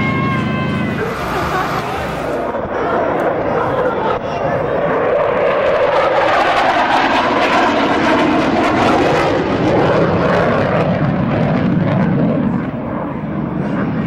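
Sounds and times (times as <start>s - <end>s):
fighter jet roaring past: 0.0s - 14.0s.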